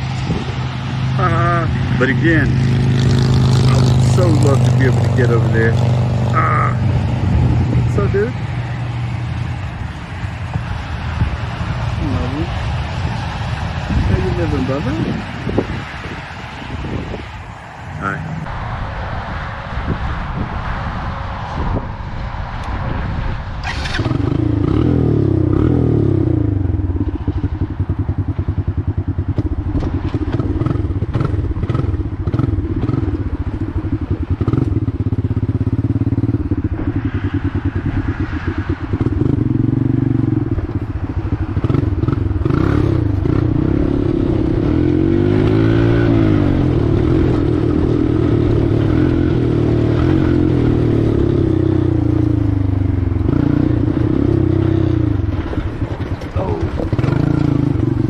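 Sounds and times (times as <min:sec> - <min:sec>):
four-wheeler engine revving: 0:00.0 - 0:16.0, 0:23.6 - 0:58.0.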